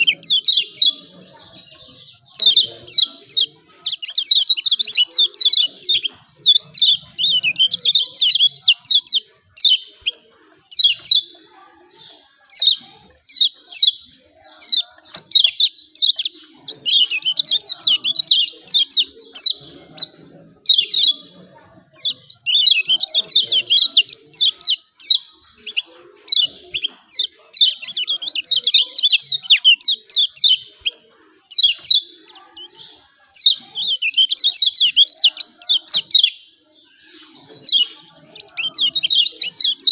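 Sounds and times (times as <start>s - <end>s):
bird chattering: 0.0s - 39.9s.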